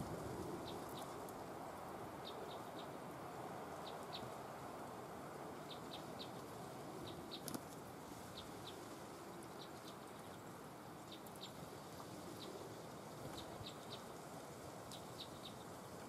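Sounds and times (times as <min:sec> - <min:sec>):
steady background hiss: 0:00.0 - 0:16.0
songbirds chirping: 0:00.1 - 0:16.0.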